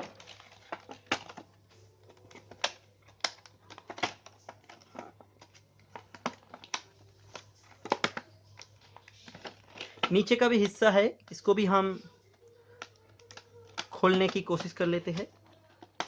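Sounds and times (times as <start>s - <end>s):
plastic packaging clicking and crackling: 0.0s - 16.0s.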